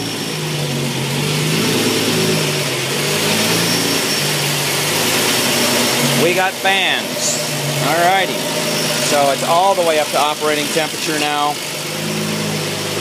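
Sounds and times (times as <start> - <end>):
car engine idling: 0.0 - 13.0
radiator cooling fans rushing: 0.0 - 13.0.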